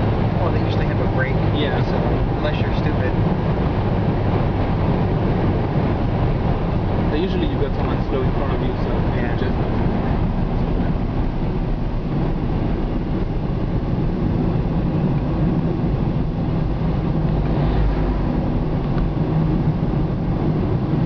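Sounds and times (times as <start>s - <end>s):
car cabin engine and road hum: 0.0s - 21.0s.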